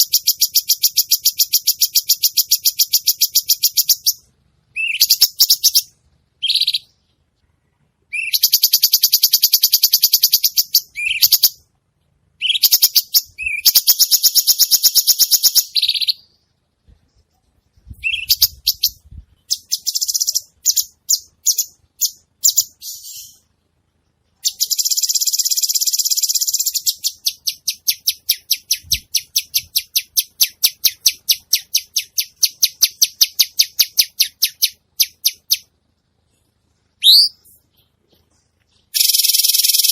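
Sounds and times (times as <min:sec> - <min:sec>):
bird singing buzzy trills: 0:00.0 - 0:07.2, 0:08.1 - 0:11.7, 0:12.4 - 0:16.6, 0:17.7 - 0:23.5, 0:24.4 - 0:35.8, 0:36.9 - 0:39.9.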